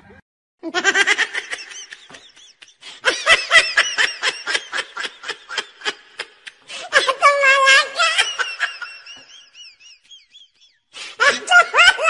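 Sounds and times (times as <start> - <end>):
person laughing: 0.6 - 12.0.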